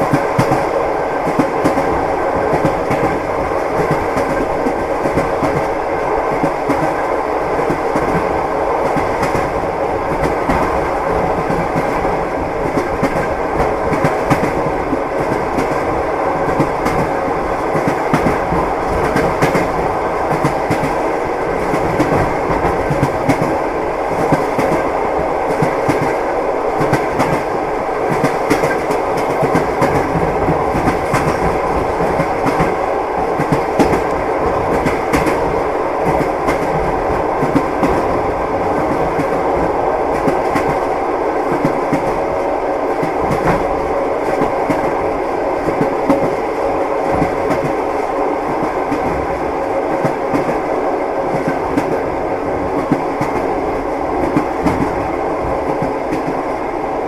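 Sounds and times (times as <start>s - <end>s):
train wheels clickety-clack: 0.0s - 56.7s.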